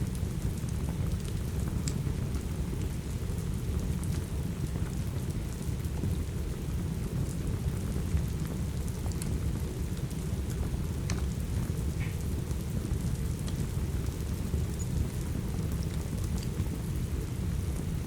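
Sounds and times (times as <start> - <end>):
faint wood fire crackles: 0.0 - 18.0
steady rainfall: 0.0 - 18.0.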